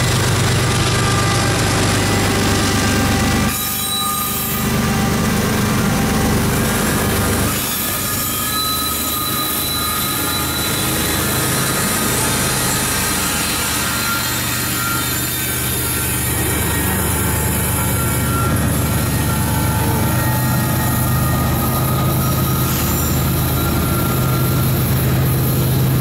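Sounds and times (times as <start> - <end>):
steel wheels squealing: 0.0 - 26.0
wheels rumbling on rail: 0.0 - 26.0.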